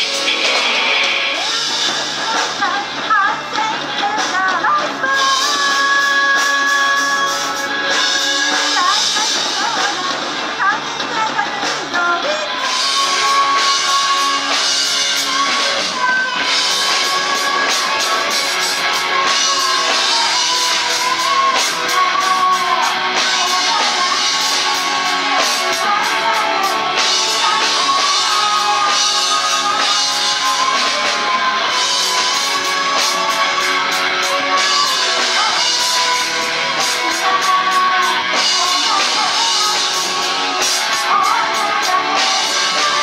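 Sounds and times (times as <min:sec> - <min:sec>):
bass guitar: 0:00.0 - 0:43.0
drum kit with cymbals: 0:00.0 - 0:43.0
electric guitars: 0:00.0 - 0:43.0
person singing: 0:00.0 - 0:43.0.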